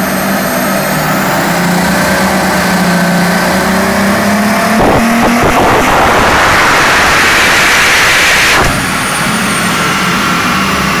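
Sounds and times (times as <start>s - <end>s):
engine running with low hum: 0.0s - 11.0s
engine rushing at full throttle: 0.0s - 11.0s.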